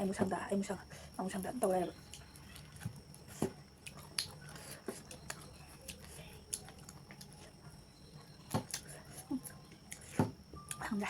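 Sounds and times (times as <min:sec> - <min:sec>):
close chewing: 0:01.3 - 0:10.8.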